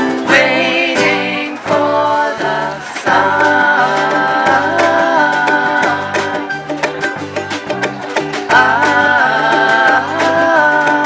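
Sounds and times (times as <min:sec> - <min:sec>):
electric bass line: 0:00.0 - 0:11.0
strummed ukuleles: 0:00.0 - 0:11.0
voices singing: 0:00.0 - 0:11.0.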